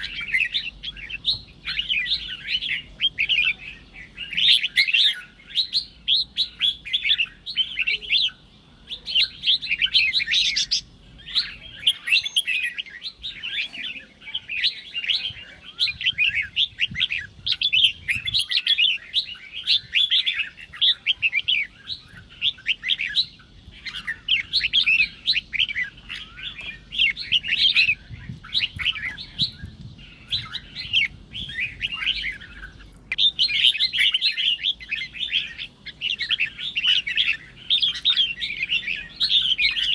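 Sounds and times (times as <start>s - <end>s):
bird singing chirping phrases: 0.0s - 39.9s.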